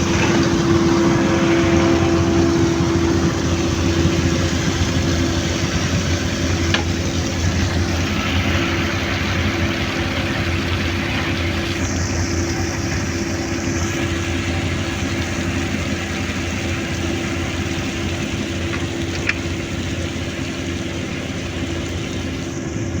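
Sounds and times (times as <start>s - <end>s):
construction machine engine idling: 0.0s - 23.0s.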